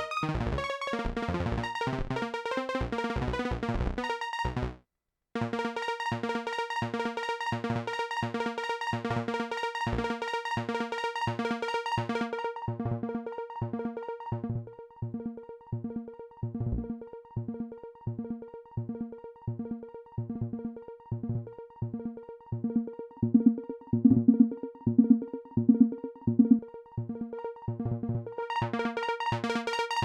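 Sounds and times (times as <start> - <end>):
experimental electronic synth music: 0.0 - 4.8, 5.4 - 30.0.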